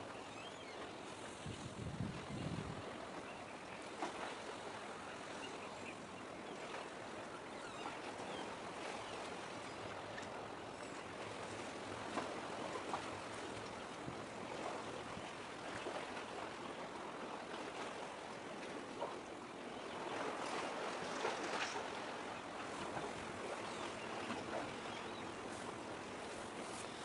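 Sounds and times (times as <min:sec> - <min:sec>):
small waves lapping: 0:00.0 - 0:27.0.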